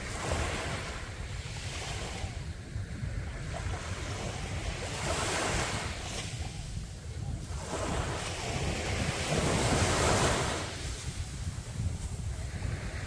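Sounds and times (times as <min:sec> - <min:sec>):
sea waves breaking on beach: 0:00.0 - 0:13.0
wind rumbling on microphone: 0:00.0 - 0:13.0.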